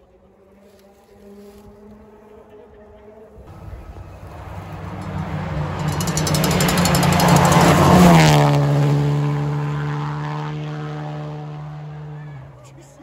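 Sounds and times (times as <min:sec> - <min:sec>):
rally car engine passing by: 0:00.0 - 0:13.0.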